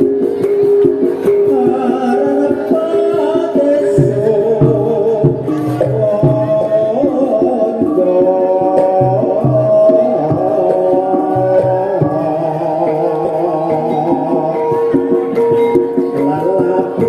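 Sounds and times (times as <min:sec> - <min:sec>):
gamelan metallic notes: 0:00.0 - 0:17.0
hand drum beat: 0:00.0 - 0:17.0.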